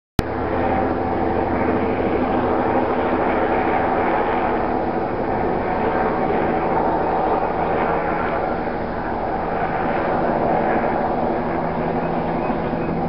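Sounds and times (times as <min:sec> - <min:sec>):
helicopter rotor beating: 0:00.2 - 0:13.0.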